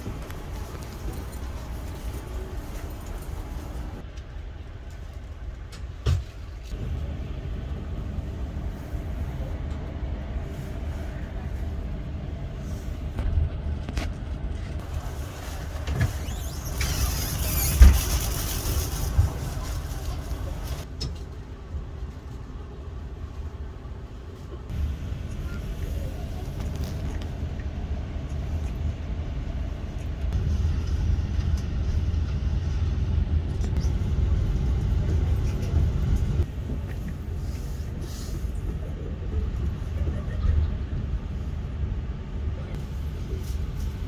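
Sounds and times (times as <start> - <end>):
train interior rumble: 0.0 - 44.0.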